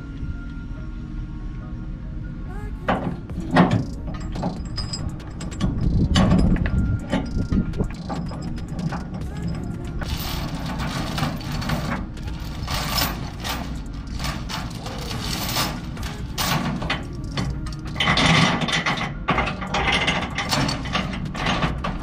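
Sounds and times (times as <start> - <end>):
steel chain clanking on metal: 2.9 - 22.0.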